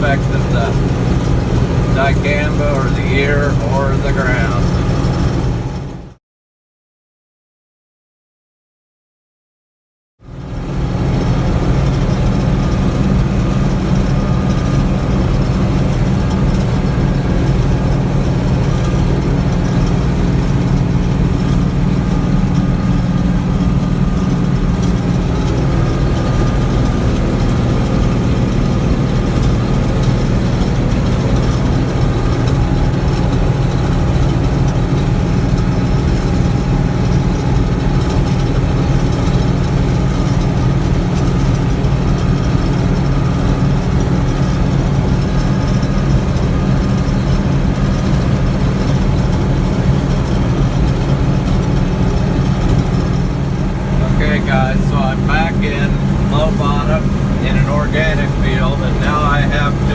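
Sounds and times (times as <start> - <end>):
combine diesel engine droning: 0.0 - 6.1, 10.6 - 59.9.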